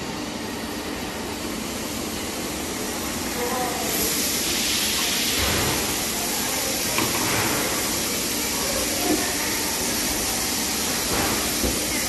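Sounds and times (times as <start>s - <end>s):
loud machinery hiss: 1.7s - 12.0s.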